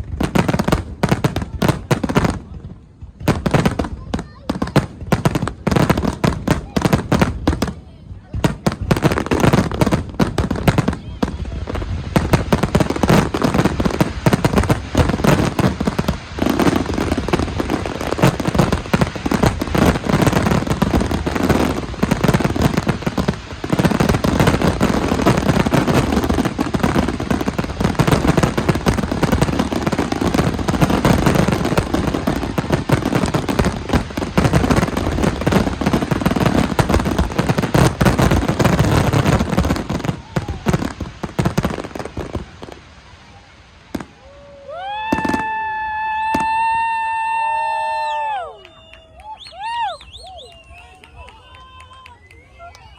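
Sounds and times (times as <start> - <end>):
fireworks and firecrackers banging: 0.0 - 52.9.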